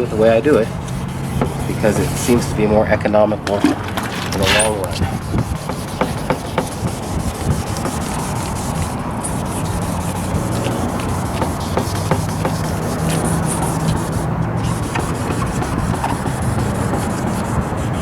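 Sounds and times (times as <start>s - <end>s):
sandpaper rubbing on plastic: 0.0s - 2.8s, 4.0s - 18.0s.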